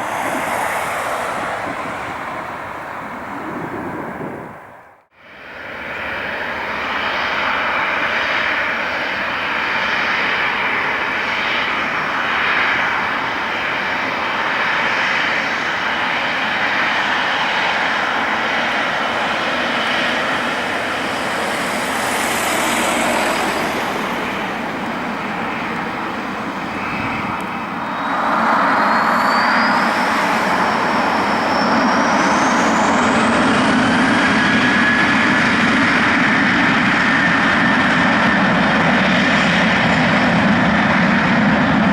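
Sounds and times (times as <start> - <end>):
high engine whine: 0.0 - 41.9
jet engines roaring: 0.0 - 41.9.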